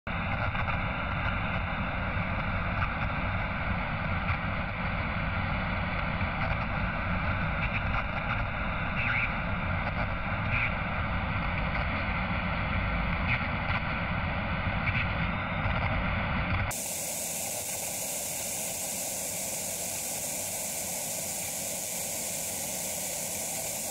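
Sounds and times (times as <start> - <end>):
static crackles: 0.1 - 23.9
tv static hiss: 0.1 - 23.9.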